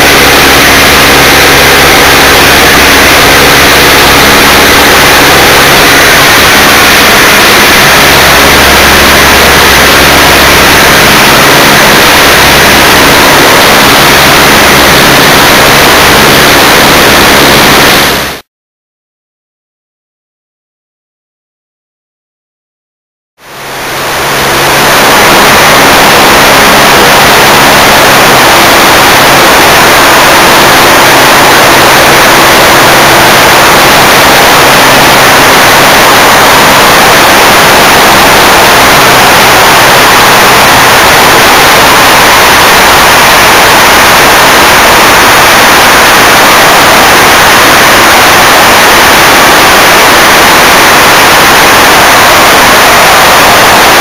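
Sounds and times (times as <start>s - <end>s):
aircraft engine drone: 0.0s - 18.4s, 23.4s - 54.0s.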